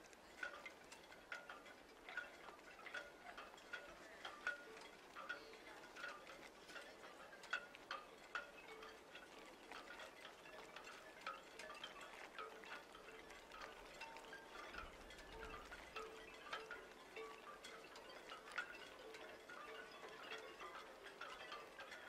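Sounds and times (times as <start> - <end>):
light ticks: 0.0 - 22.0
tinkling chimes: 0.0 - 22.0.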